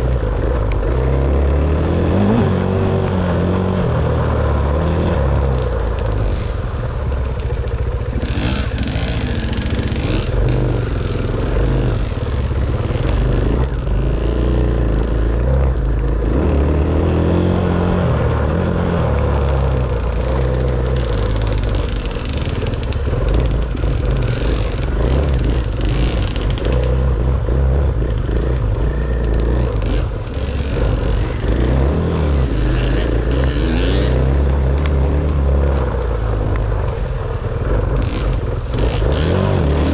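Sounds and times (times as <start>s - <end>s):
dirt bike engine revving: 0.0s - 6.6s, 8.0s - 35.9s, 37.9s - 39.9s.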